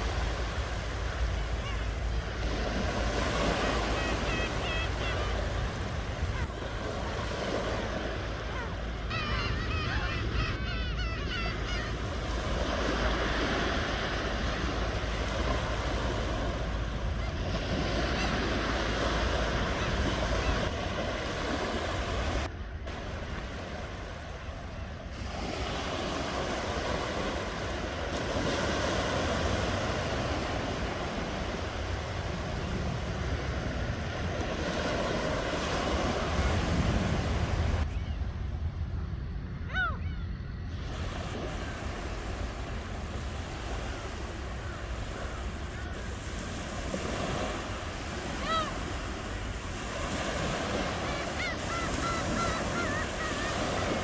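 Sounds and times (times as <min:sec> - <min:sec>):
ocean waves washing ashore: 0:00.0 - 0:54.0
wind rumble on microphone: 0:00.0 - 0:54.0.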